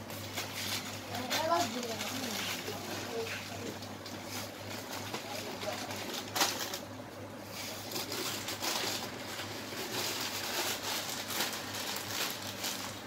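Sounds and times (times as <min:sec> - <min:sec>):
steady low hum: 0:00.0 - 0:13.0
plastic wrappers crinkling: 0:00.1 - 0:06.9, 0:07.7 - 0:13.0.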